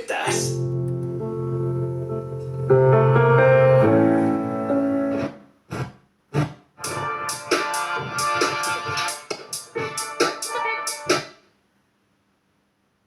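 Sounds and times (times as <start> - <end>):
radio music with piano chords: 0.0 - 11.4.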